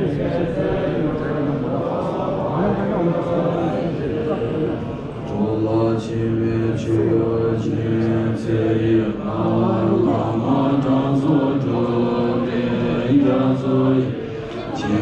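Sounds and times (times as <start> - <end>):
voices chanting together: 0.0 - 15.0.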